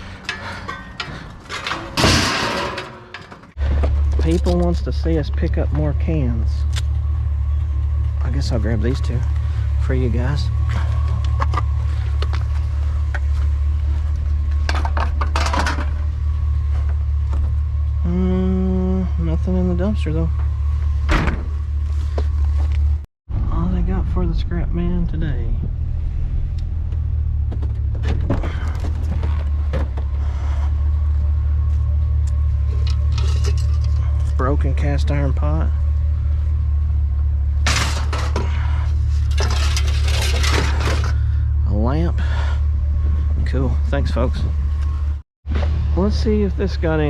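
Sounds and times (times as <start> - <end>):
low vehicle engine hum: 0.0 - 47.0.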